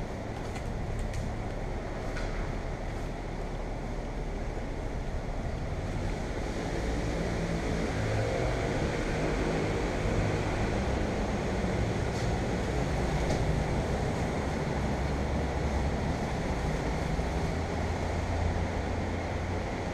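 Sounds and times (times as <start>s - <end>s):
city traffic rumble: 0.0s - 19.9s.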